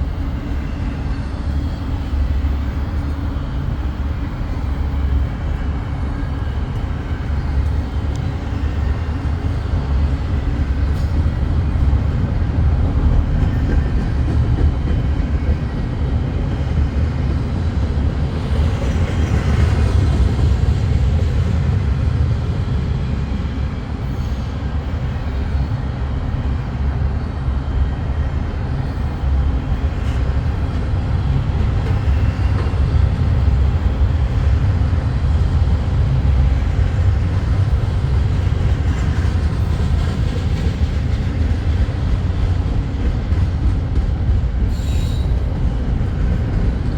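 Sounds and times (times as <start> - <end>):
freight train rumbling on rails: 0.0 - 46.9.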